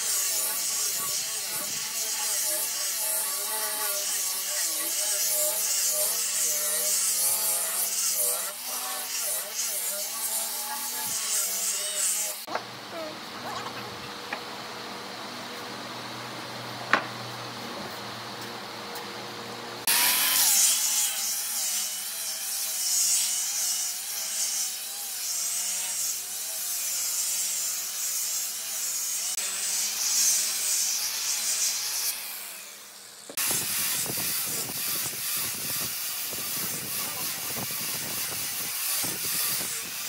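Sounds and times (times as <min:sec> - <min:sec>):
angle grinder sanding wood: 0:00.0 - 0:14.2, 0:19.8 - 0:40.0.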